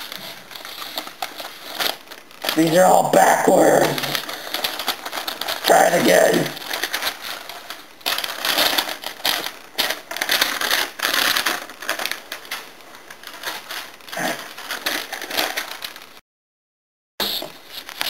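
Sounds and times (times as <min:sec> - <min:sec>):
paper rustling and crinkling: 0:00.0 - 0:16.2, 0:17.4 - 0:18.0.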